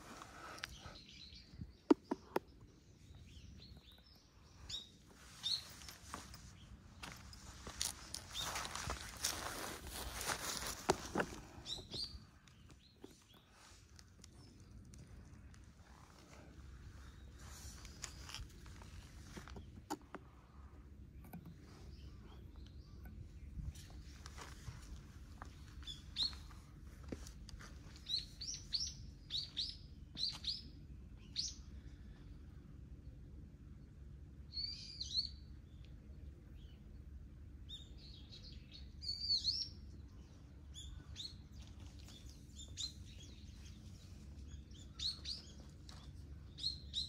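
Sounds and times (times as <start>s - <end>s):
low background rumble: 0.0s - 47.0s
small birds chirping: 0.0s - 47.0s.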